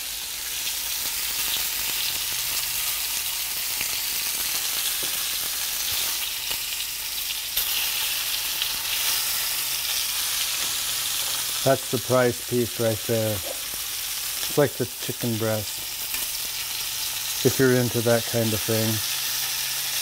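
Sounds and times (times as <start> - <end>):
meat sizzling in oil: 0.0 - 20.0.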